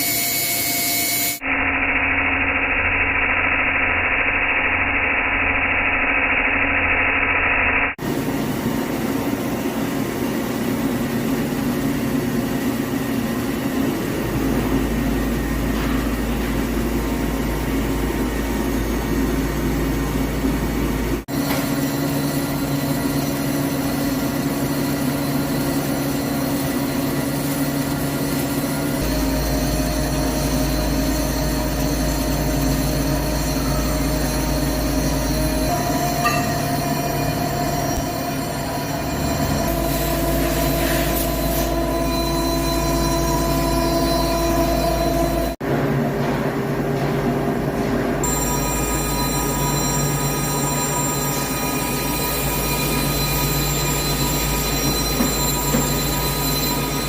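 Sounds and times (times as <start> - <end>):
lathe machine hum: 7.9 - 57.0.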